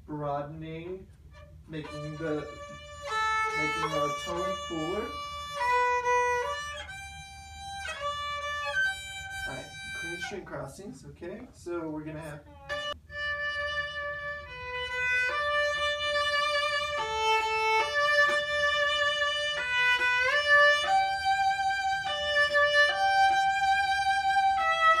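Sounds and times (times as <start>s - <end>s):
two violins playing slow melody: 1.2s - 10.6s, 12.1s - 25.0s.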